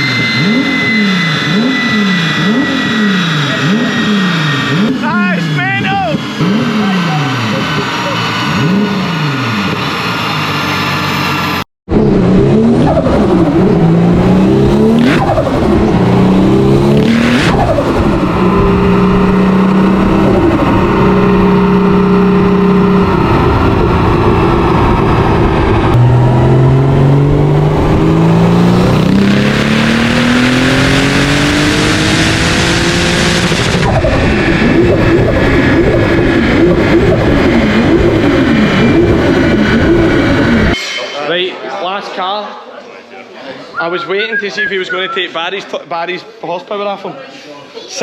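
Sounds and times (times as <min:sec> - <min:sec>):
car engine revving: 0:00.0 - 0:40.8.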